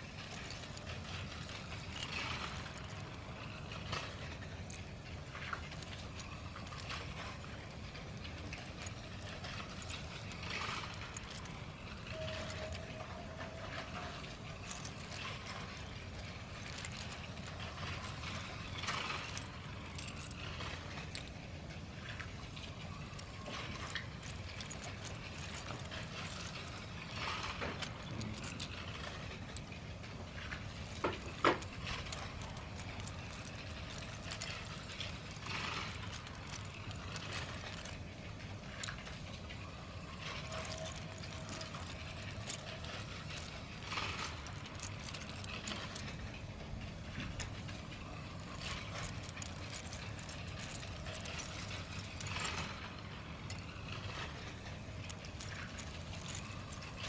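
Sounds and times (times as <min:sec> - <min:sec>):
toy train wheels clattering on track: 0:00.0 - 0:57.0.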